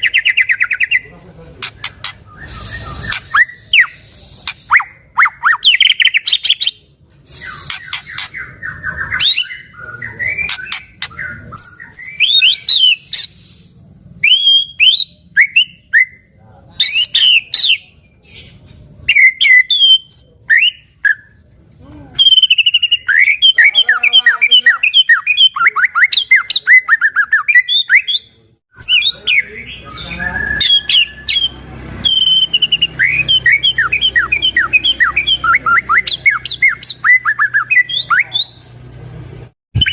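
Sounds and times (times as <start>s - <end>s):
bird singing whistles and trills: 1.8s - 4.1s, 4.7s - 13.6s, 14.2s - 21.4s, 22.2s - 38.6s.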